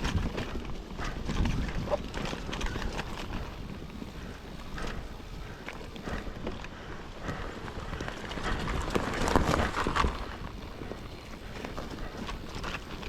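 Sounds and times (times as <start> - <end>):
bike knocking and rattling: 0.0 - 13.0.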